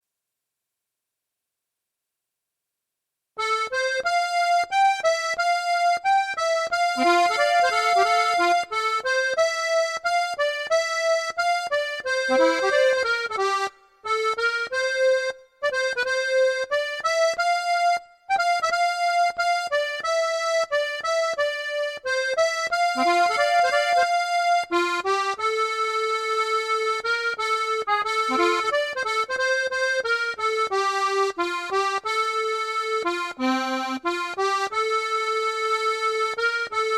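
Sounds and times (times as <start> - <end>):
accordion playing slow melody: 3.4 - 36.9.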